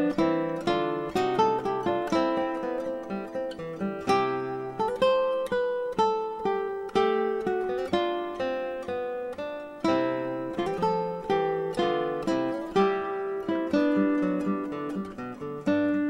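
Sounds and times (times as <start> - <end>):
acoustic guitar plucked melody: 0.0 - 16.0.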